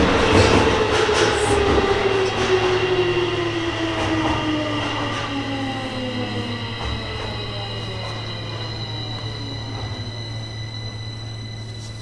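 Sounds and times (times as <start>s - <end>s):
train motors whining: 0.0s - 12.0s
train wheel rumble: 0.0s - 12.0s.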